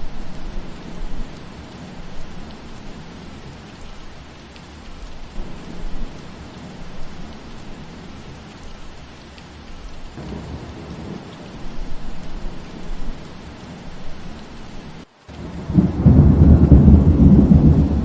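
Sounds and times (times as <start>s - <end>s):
rain falling through trees: 0.0s - 18.0s.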